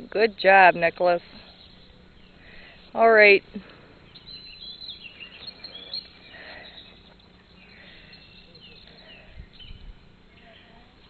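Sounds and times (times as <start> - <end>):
birds chirping: 0.0 - 11.0
faint outdoor hiss: 0.0 - 11.0.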